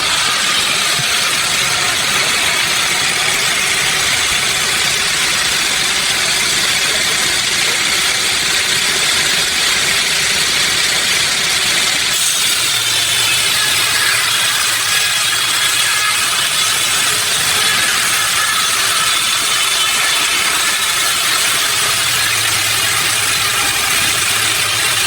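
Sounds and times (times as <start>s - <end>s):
sawmill machinery hissing: 0.0s - 25.0s.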